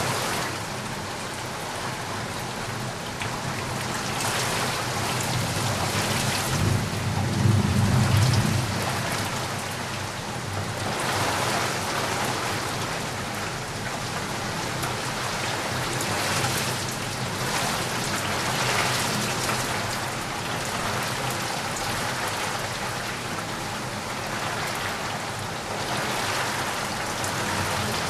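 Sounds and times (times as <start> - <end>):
rain falling on a surface: 0.0 - 28.0.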